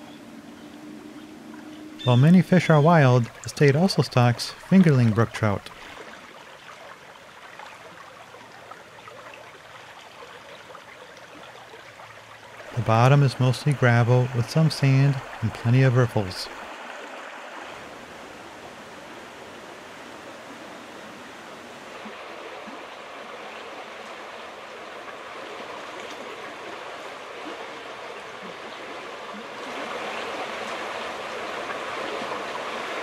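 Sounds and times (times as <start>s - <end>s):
stream water rushing over gravel: 2.1s - 33.0s.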